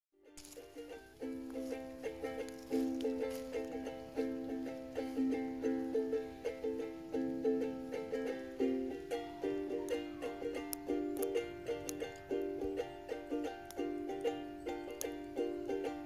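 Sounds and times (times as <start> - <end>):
plucked-string tune: 0.2 - 16.0.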